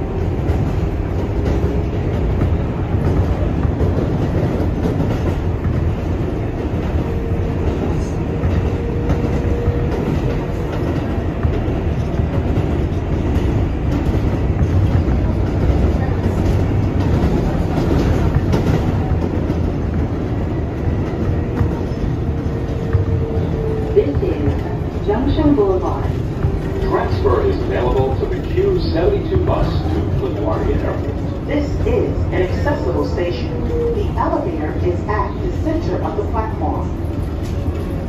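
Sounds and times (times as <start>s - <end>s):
subway train rumble: 0.0s - 38.0s.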